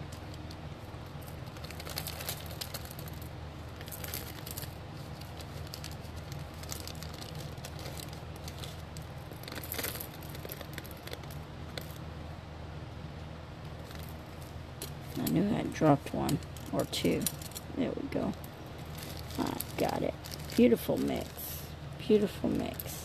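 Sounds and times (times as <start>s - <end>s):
plastic bag crinkling: 0.0s - 12.0s, 13.8s - 23.0s
steady low hum: 0.0s - 23.0s.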